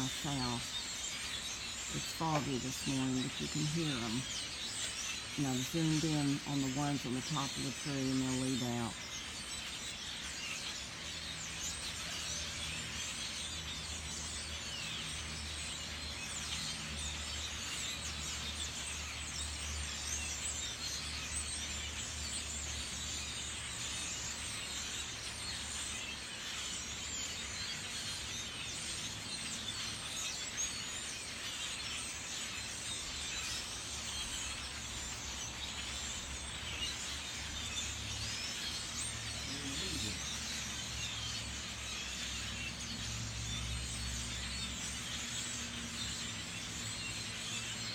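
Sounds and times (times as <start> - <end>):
flock of birds chirping: 0.0 - 47.9.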